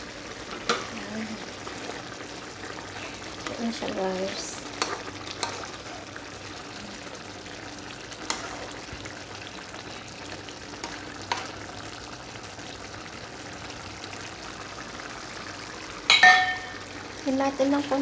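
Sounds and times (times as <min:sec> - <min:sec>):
soup bubbling in a pan: 0:00.0 - 0:18.0.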